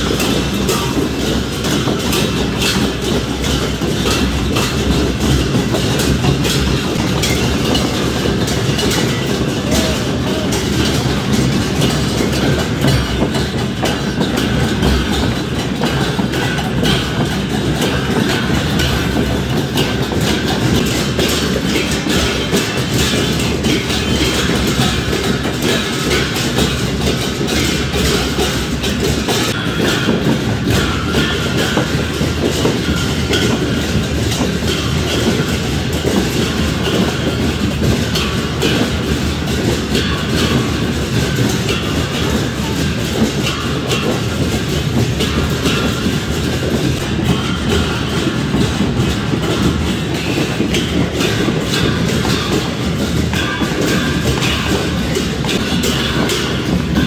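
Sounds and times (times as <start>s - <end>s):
drums and cymbals playing loudly: 0.0s - 57.0s.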